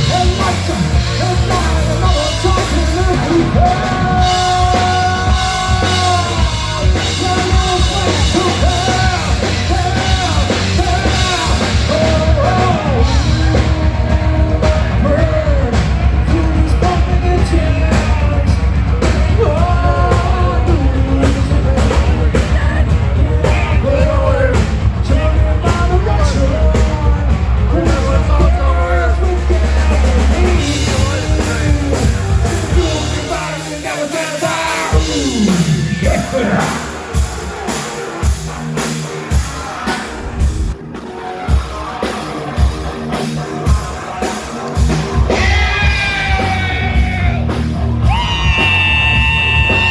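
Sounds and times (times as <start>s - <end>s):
person singing: 0.0s - 37.8s, 43.6s - 49.9s
drum kit: 0.0s - 49.9s
heavy bass: 0.0s - 49.9s.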